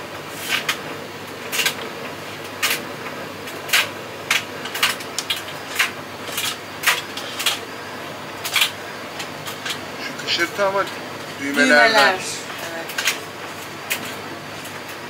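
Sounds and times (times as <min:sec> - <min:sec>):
tumble dryer drum humming: 0:00.0 - 0:15.0.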